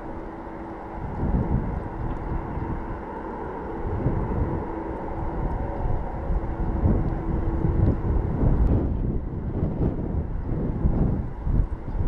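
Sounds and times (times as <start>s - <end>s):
jet engine drone: 0.0s - 12.0s
wind buffeting microphone: 0.0s - 12.0s.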